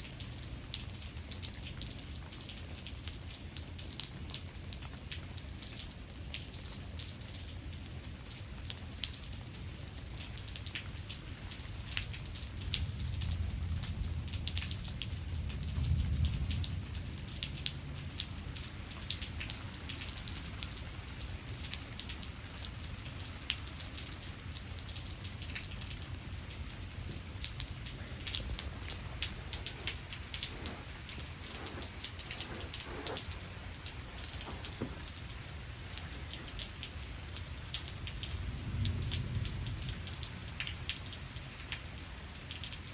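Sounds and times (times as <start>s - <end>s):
rain drops striking surface: 0.0s - 42.9s.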